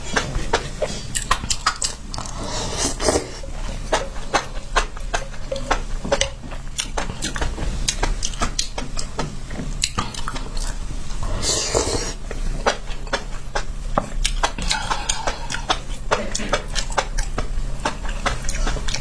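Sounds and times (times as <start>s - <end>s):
faint steady hum: 0.0s - 19.0s
wet chewing bites: 0.1s - 19.0s.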